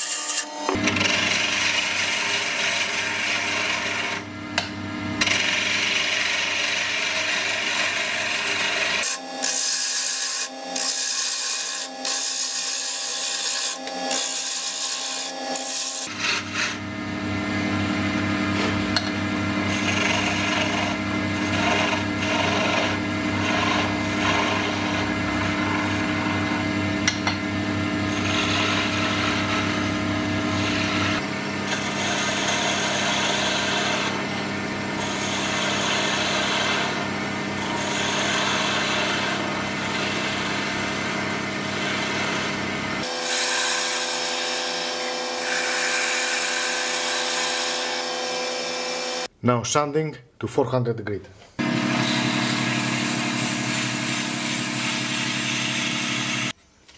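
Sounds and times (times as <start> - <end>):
chisel scraping spinning wood: 0.0 - 4.3, 5.2 - 16.9, 18.4 - 49.3, 51.6 - 56.6
wood lathe humming: 0.0 - 49.3, 51.6 - 56.6.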